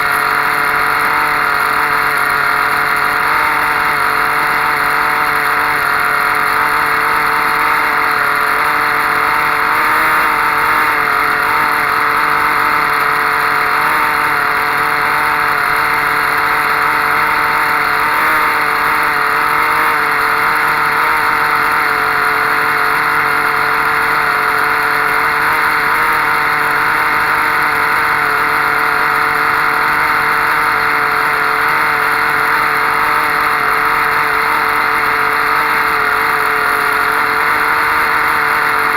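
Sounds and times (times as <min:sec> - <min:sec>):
model engine buzzing: 0:00.0 - 0:38.9.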